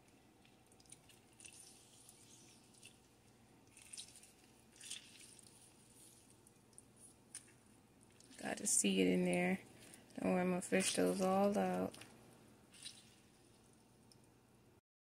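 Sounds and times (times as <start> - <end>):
lemon squelching and dripping: 0.0 - 8.5, 9.2 - 14.2.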